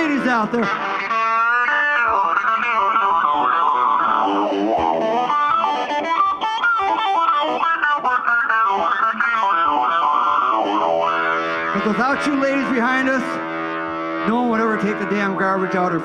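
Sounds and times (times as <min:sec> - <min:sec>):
electric guitar with effects: 0:00.0 - 0:16.0.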